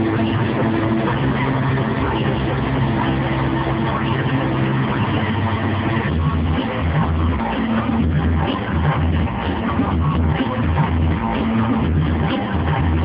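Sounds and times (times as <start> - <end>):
heavy pounding bass beat: 0.0 - 13.0.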